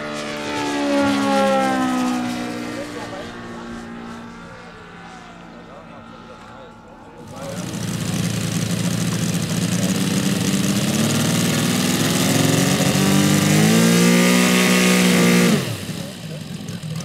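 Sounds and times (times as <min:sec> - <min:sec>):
model airplane radial engine: 0:00.0 - 0:17.0.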